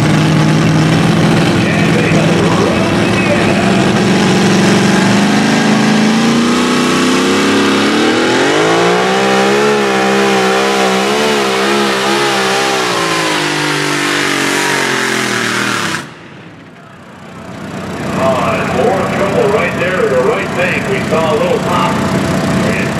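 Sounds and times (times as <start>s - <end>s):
truck engine running flat out: 0.0s - 22.9s.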